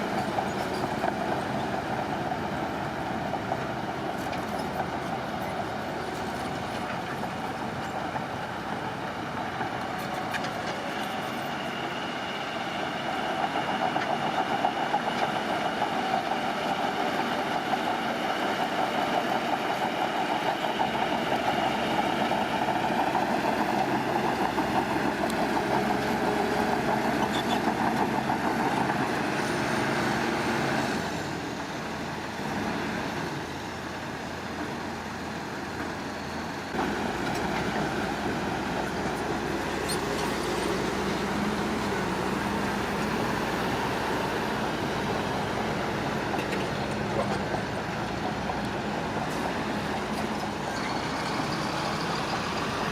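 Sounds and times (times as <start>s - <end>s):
construction machine diesel engine: 0.0s - 52.9s.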